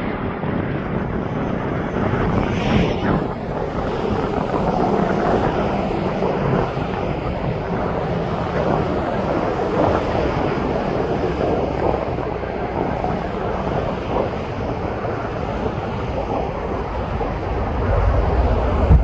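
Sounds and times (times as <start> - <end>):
aircraft engine rushing: 0.0 - 19.0
wind on microphone: 0.0 - 19.0.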